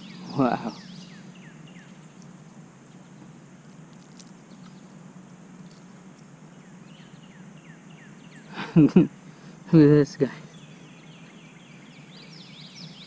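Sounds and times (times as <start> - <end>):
faint bird chirps: 0.0 - 3.4, 4.2 - 5.0, 5.6 - 9.7, 10.4 - 13.0
steady low hum: 0.0 - 13.0.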